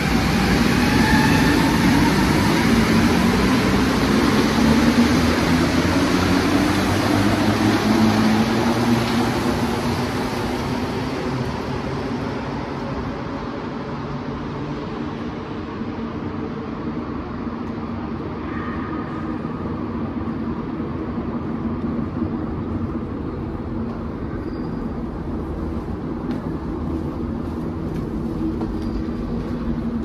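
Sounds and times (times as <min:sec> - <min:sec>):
low rumble of machinery and trains: 0:00.0 - 0:30.0.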